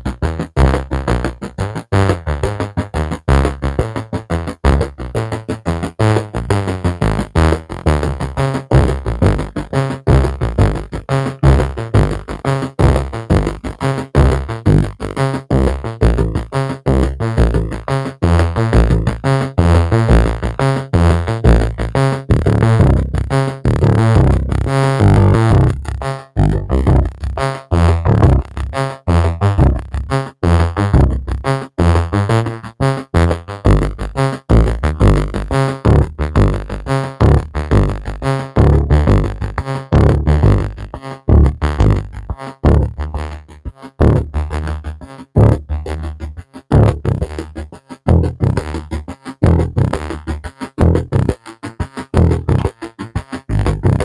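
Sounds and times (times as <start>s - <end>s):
electronic synthesizer music: 0.0s - 51.3s.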